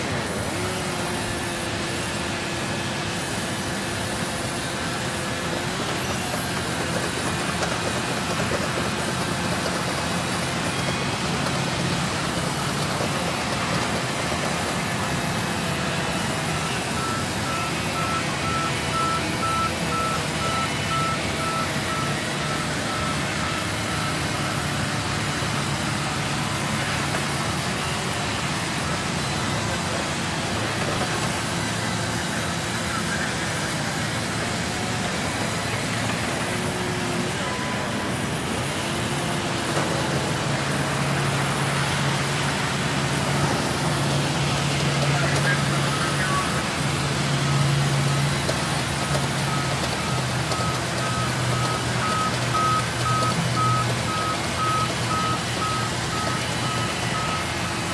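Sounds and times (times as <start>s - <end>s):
sawmill saw cutting timber: 0.0s - 57.9s.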